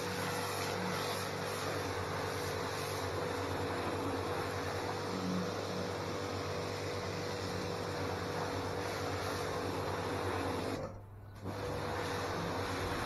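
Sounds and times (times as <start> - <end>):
pressure washer motor humming: 0.0 - 13.0
water jet hissing: 0.0 - 13.0.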